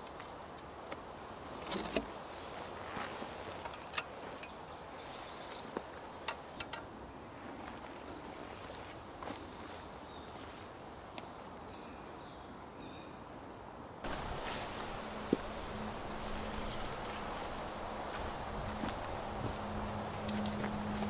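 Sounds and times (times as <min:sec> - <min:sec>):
small birds chirping: 0:00.0 - 0:06.8, 0:07.4 - 0:21.0.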